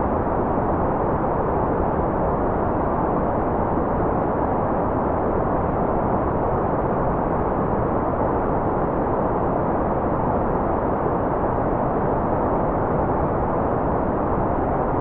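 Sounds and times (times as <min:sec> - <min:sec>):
white noise: 0:00.0 - 0:15.0.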